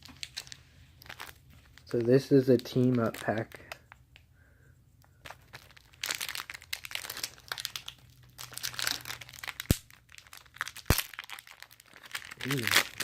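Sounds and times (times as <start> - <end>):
foil wrapper crinkling: 0.0 - 4.0, 5.1 - 13.0.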